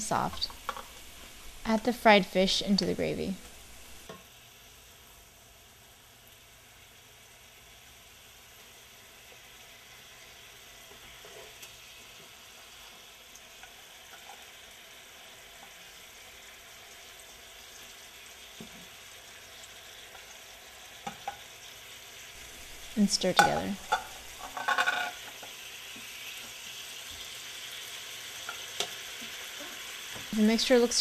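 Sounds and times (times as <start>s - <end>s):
gravy simmering with sizzle: 0.0s - 31.0s.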